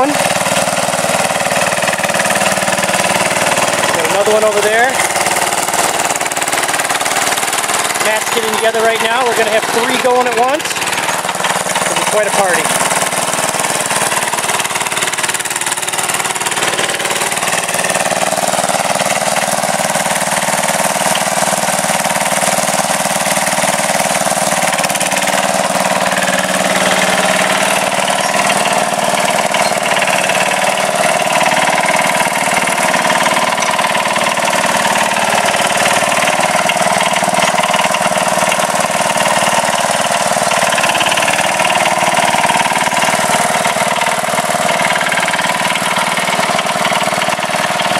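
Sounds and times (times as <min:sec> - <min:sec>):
blades pushing dirt: 0:00.0 - 0:47.9
garden tractor engines running: 0:00.0 - 0:47.9.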